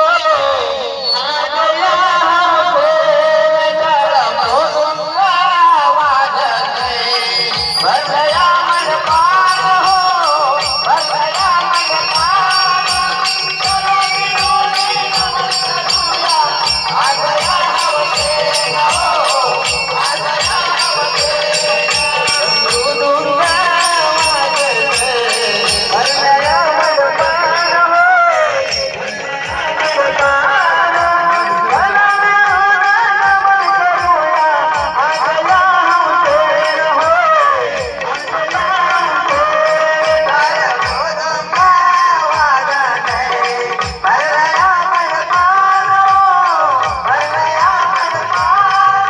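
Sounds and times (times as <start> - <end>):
steady drum beat: 3.7 - 49.0.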